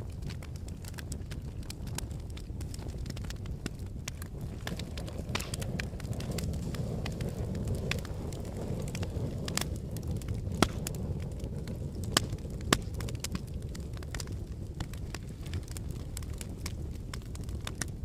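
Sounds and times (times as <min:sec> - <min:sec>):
sharp cracks: 0:00.0 - 0:11.0, 0:12.0 - 0:18.0
crackling and popping: 0:00.0 - 0:18.0
low volcanic rumble: 0:00.0 - 0:18.0.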